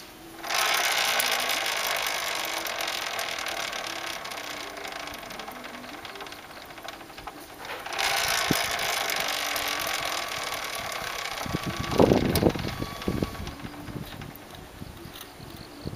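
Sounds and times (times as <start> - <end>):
wheel and chain whirring: 0.0 - 15.9.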